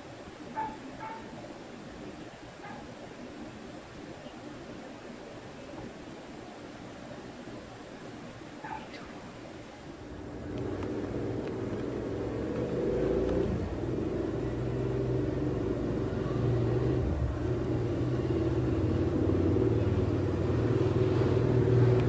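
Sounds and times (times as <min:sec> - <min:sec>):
steady low rumble: 0:01.6 - 0:22.0.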